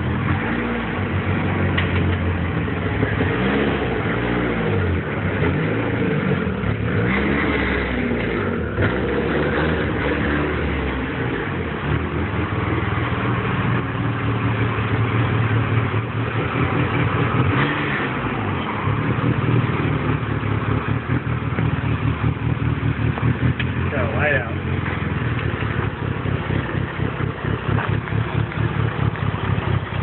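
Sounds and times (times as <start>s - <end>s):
loud car exhaust revving: 0.0s - 30.0s.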